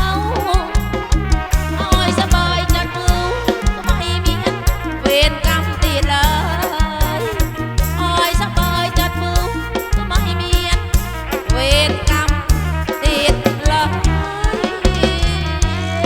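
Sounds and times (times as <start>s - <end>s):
folk band playing: 0.0s - 16.0s
heavy bass: 0.0s - 16.0s
ornamented lead melody: 0.0s - 16.0s
steady drum beat: 0.0s - 16.0s.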